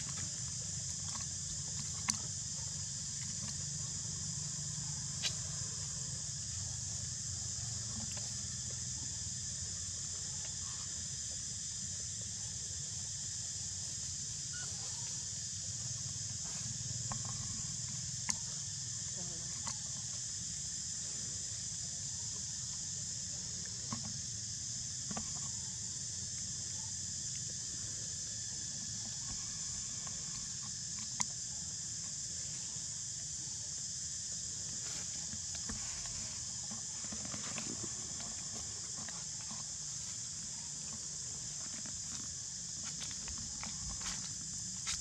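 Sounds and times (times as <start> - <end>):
insects droning in trees: 0.0 - 45.0.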